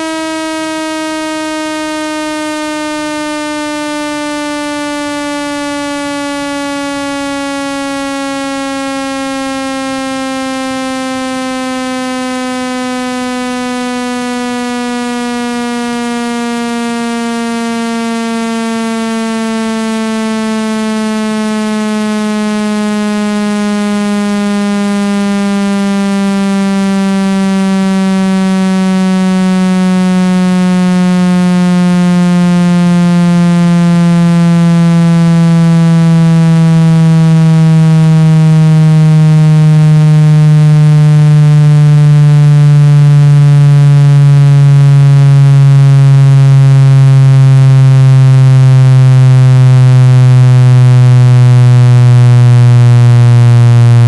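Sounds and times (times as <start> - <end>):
buzzy electronic tone sliding down: 0.0 - 54.0.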